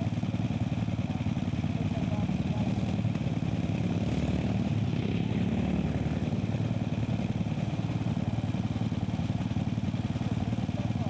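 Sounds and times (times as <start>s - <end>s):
small petrol engines running hard: 0.0s - 11.0s.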